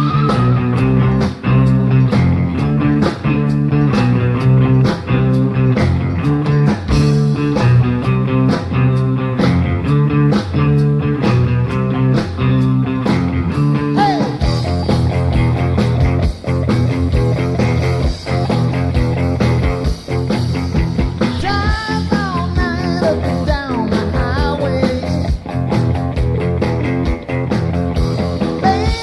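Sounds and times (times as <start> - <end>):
guitar chords: 0.0 - 29.0
steady drum beat: 0.0 - 29.0.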